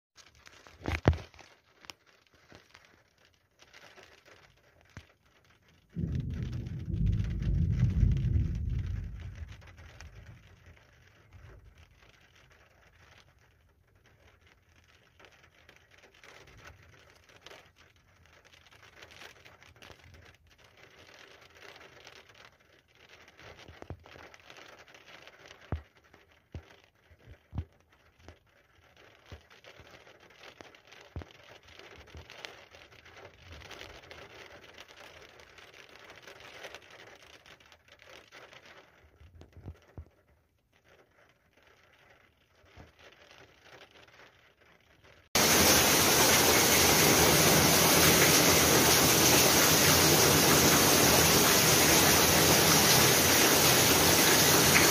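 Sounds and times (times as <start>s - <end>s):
light rain hiss: 0.2s - 54.9s.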